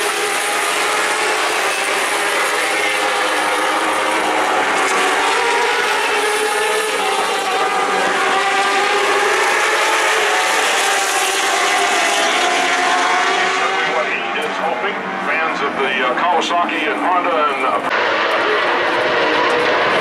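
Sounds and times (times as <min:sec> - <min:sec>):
racing motorbike engines: 0:00.0 - 0:20.0.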